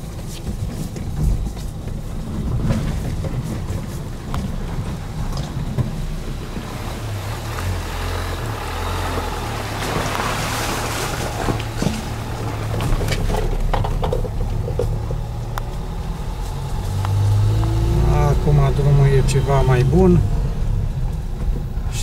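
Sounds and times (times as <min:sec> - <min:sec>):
diesel engine running: 0:00.0 - 0:22.0
tyres crackling over gravel: 0:00.0 - 0:22.0
wheels splashing through water: 0:00.0 - 0:22.0.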